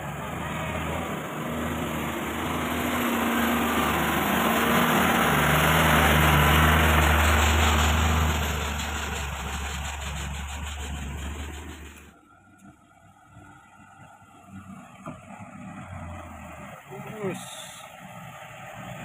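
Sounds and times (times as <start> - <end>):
truck diesel engine passing: 0.0 - 19.0.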